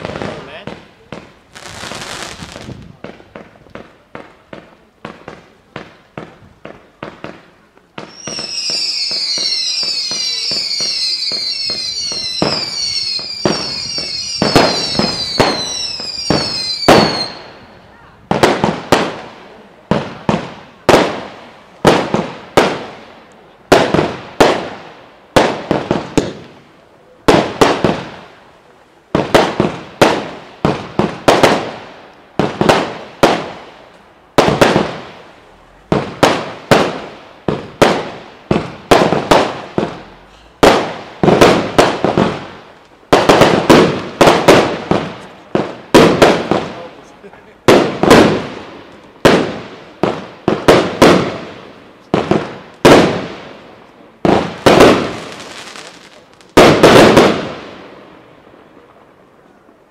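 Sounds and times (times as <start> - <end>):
fireworks bangs with echoes: 0.0 - 28.5, 29.1 - 59.9.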